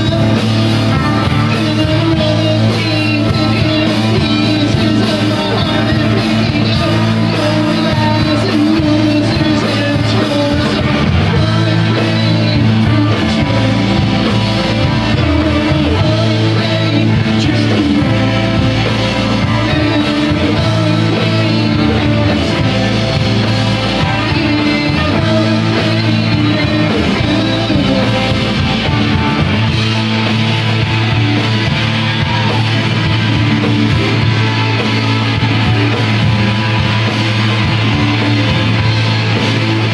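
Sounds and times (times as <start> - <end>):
bass: 0.0 - 39.9
distorted electric guitars: 0.0 - 39.9
drums: 0.0 - 39.9
person singing: 0.0 - 39.9.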